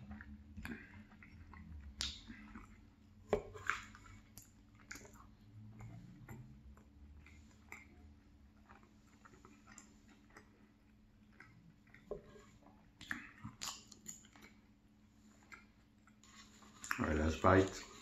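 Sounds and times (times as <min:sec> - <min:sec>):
faint chewing: 0:00.0 - 0:18.0.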